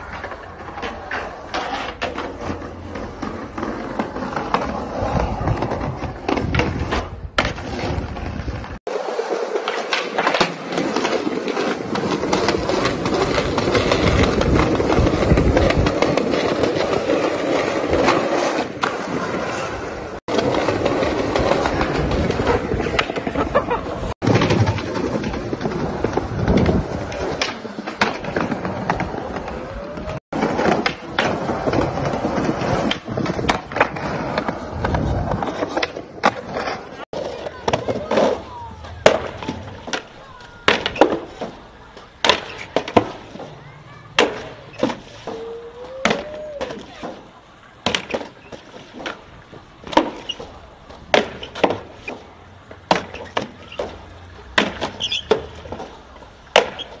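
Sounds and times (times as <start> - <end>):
skateboard wheels rolling on concrete: 0.0 - 57.0
skateboards clacking: 0.0 - 57.0.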